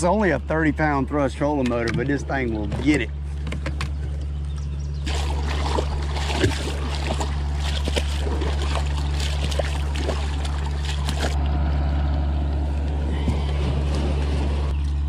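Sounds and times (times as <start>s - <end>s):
propeller churning shallow water: 0.0s - 15.0s
steady low hum: 0.0s - 15.0s.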